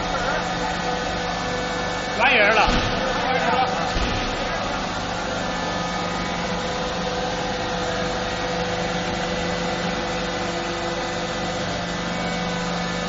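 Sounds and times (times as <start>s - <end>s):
factory machinery drone: 0.0s - 13.0s.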